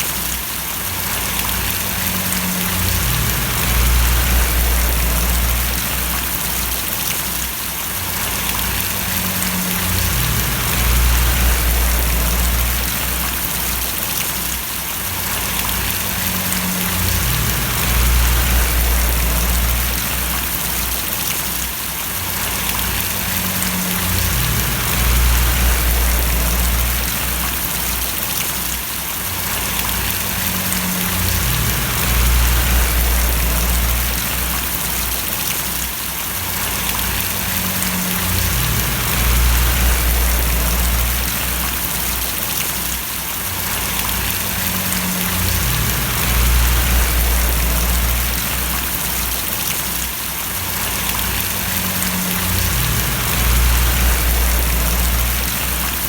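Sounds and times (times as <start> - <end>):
rain falling and splashing: 0.0 - 56.0
low hum: 1.2 - 7.2, 8.2 - 14.2, 15.3 - 21.5, 22.4 - 28.4, 29.6 - 35.6, 36.6 - 42.6, 43.8 - 49.9, 50.8 - 56.0.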